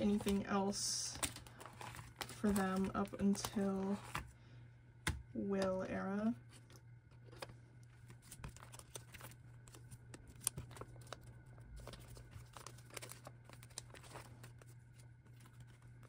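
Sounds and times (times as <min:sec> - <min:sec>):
plastic sleeves crinkling and rustling: 0:00.0 - 0:04.3, 0:06.5 - 0:16.0.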